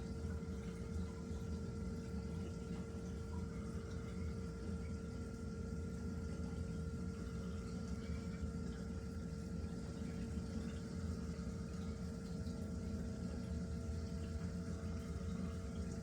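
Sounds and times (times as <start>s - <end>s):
aquarium pump hum: 0.0s - 16.0s.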